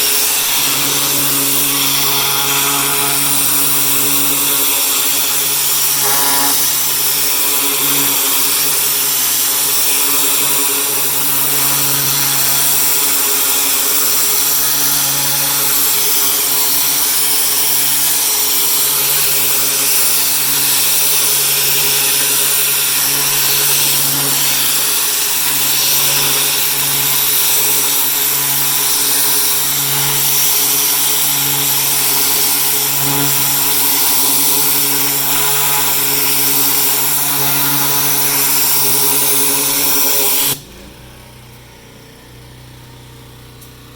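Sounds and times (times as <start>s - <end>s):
pressure washer running: 0.0s - 43.9s.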